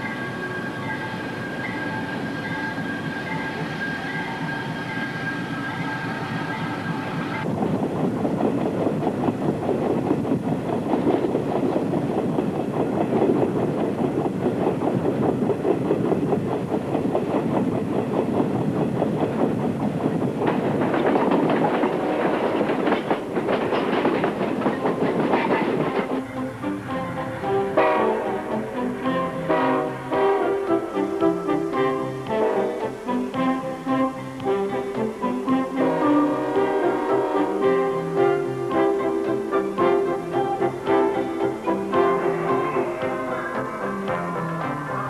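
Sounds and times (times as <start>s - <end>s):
passing train rumble: 0.0s - 45.0s
train wheels clattering on track: 0.0s - 45.0s.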